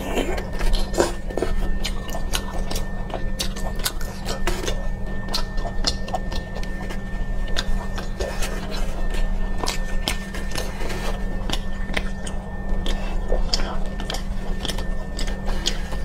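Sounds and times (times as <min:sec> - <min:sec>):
steady low hum: 0:00.0 - 0:16.0
wet chewing mouth clicks: 0:00.0 - 0:16.0.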